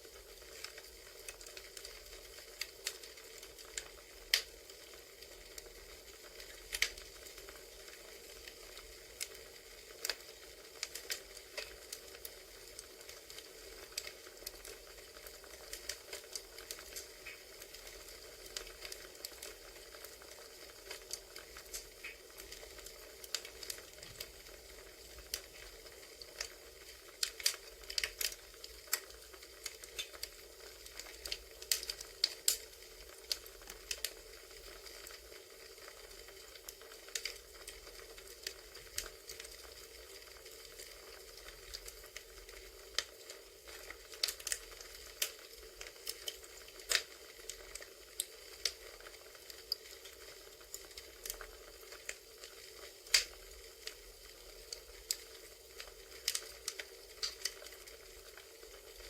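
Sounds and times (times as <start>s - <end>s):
burning wood crackling: 0.0s - 59.0s
fire popping and snapping: 0.0s - 59.0s
steady hiss: 0.0s - 59.0s.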